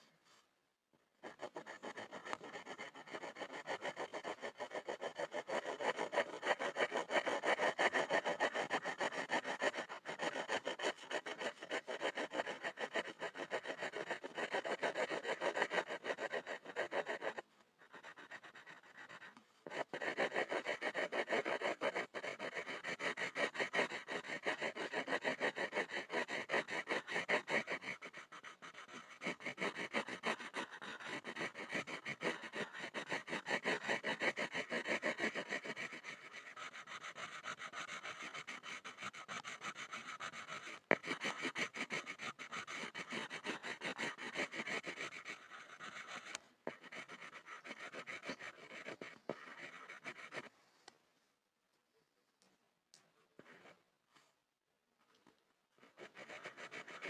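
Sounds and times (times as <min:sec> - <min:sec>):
pencil scribbling on board: 0:01.2 - 0:50.5, 0:53.4 - 0:53.8, 0:55.8 - 0:57.0.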